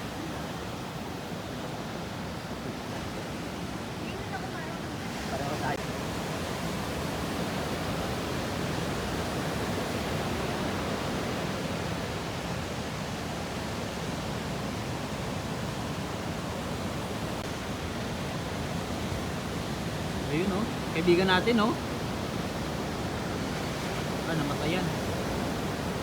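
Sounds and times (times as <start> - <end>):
ocean surf rushing: 0.0 - 26.0.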